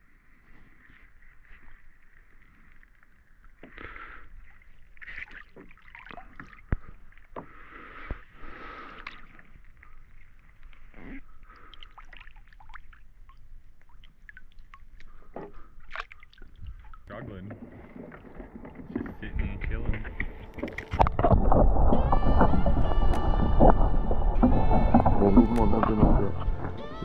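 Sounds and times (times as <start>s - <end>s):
water sloshing and splashing: 0.2s - 27.0s.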